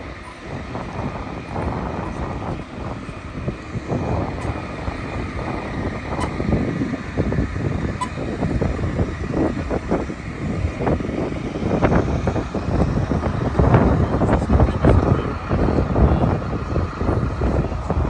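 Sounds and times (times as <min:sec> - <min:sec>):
traffic and vehicle engines: 0:00.0 - 0:18.0
wind buffeting microphone: 0:00.0 - 0:18.0.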